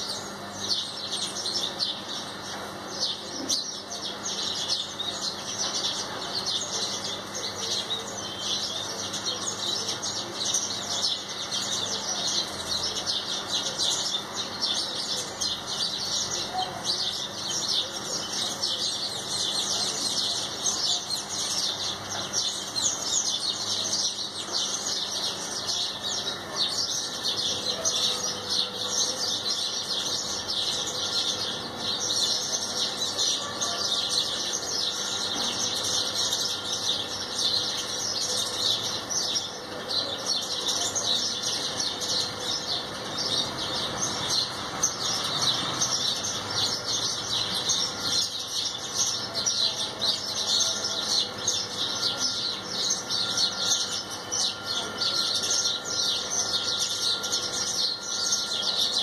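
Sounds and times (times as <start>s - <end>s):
flock of small birds chirping: 0.0s - 59.0s.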